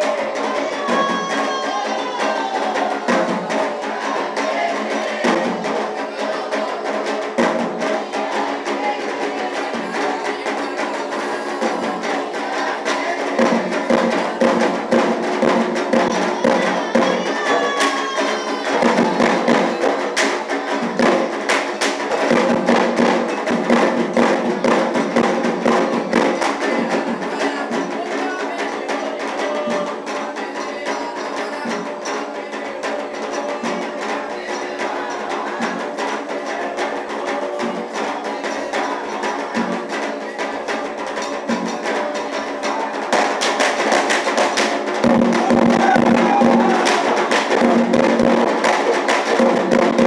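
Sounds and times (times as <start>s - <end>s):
fast dense drumming: 0.0s - 50.0s.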